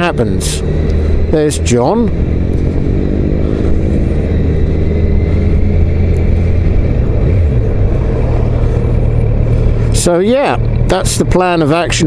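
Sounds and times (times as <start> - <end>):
wind noise: 0.0 - 11.0
motorcycle engine at road speed: 0.0 - 12.0.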